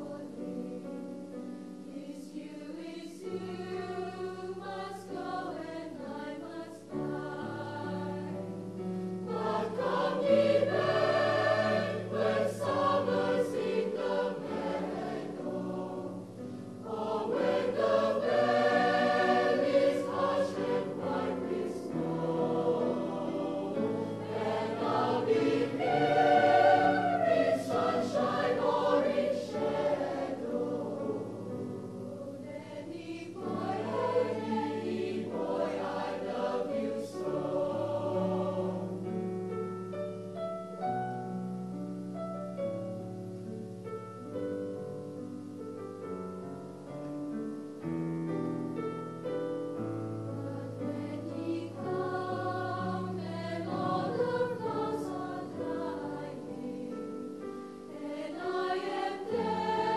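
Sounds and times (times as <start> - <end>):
mixed choir singing in harmony: 0.0 - 39.5, 49.7 - 59.9.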